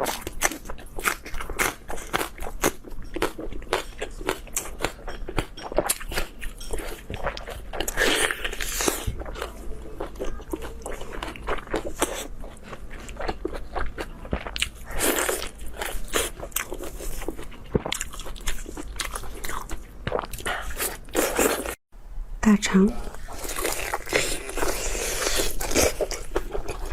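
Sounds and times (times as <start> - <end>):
mouth biting and chewing: 0.0 - 21.8, 23.2 - 26.9.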